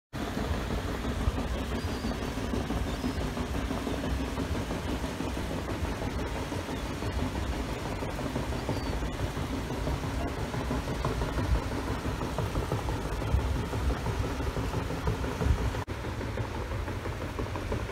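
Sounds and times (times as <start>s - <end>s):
paddle wheels churning water: 0.1s - 17.9s
steamer engine rumble: 0.1s - 17.9s.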